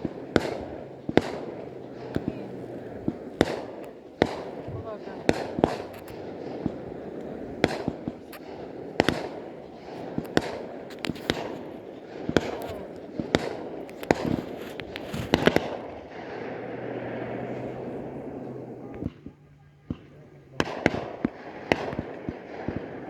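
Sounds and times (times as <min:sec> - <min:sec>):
fireworks exploding: 0:00.0 - 0:23.0.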